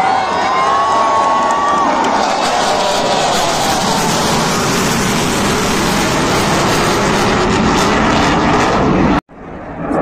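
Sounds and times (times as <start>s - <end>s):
aircraft engine roar overhead: 0.0s - 10.0s.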